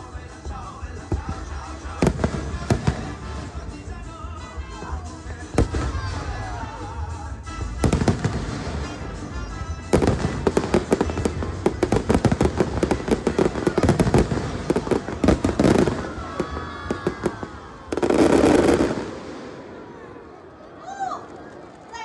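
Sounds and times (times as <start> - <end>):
fireworks bursting: 0.0 - 4.1, 5.2 - 6.8, 7.5 - 20.3.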